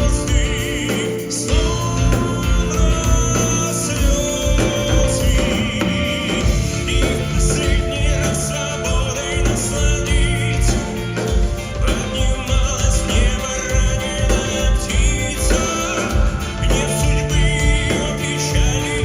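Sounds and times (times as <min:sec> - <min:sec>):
band accompaniment: 0:00.0 - 0:19.0
man singing with vibrato: 0:00.0 - 0:19.0
steady bass line: 0:00.0 - 0:19.0.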